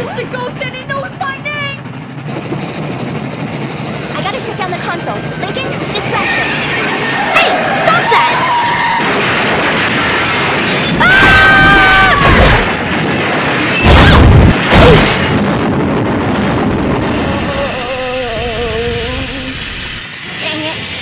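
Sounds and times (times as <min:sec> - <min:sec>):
loud booms: 0:00.0 - 0:20.1
steam train rumbling: 0:00.0 - 0:21.0.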